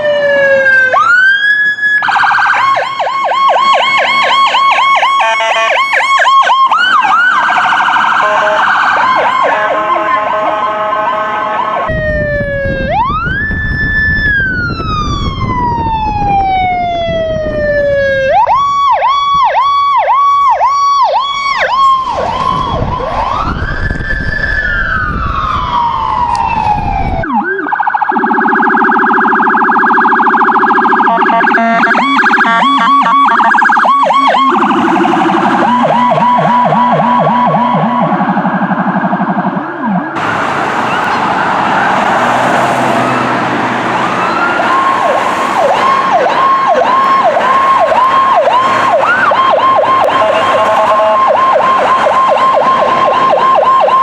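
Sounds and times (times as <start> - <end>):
electronic emergency sirens: 0.0 - 54.0
fast siren yelps: 0.0 - 54.0.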